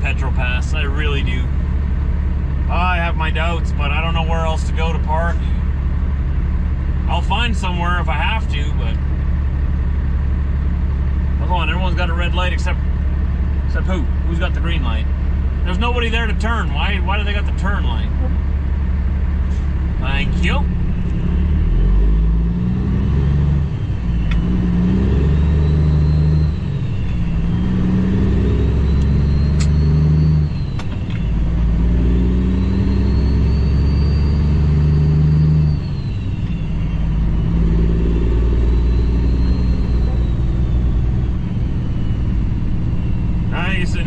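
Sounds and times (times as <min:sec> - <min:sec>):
truck engine accelerating through gears: 0:00.0 - 0:44.0.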